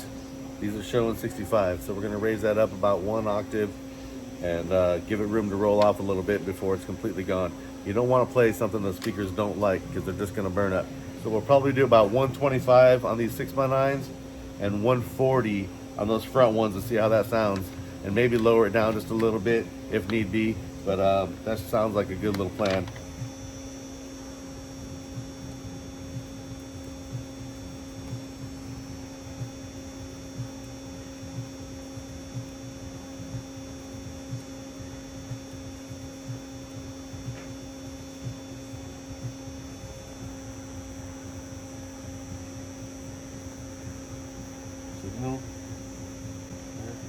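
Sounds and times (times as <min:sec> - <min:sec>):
soft low pulses: 0:00.0 - 0:47.0
steady humming test tone: 0:00.0 - 0:47.0.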